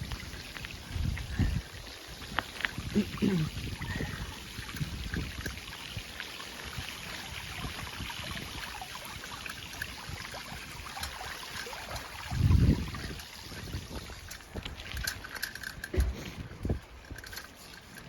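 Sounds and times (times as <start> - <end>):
wind buffeting microphone: 0.0 - 17.4
floodwater running: 0.0 - 18.0.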